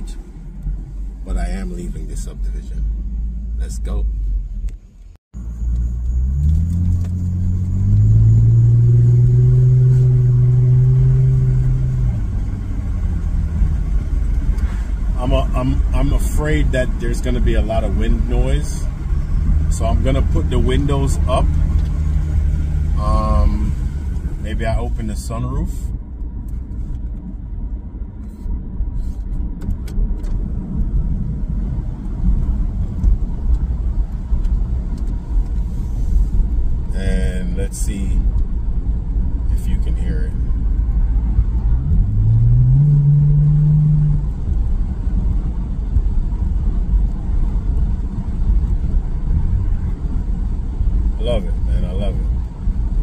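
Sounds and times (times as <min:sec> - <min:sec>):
car engine exhaust drone: 0:00.0 - 0:53.0.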